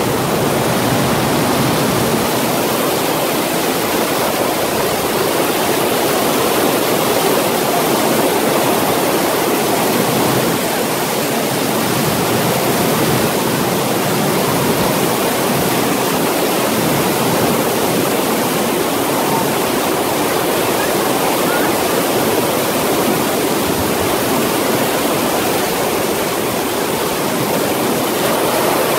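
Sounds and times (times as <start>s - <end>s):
heavy rain on sea surface: 0.0s - 28.9s.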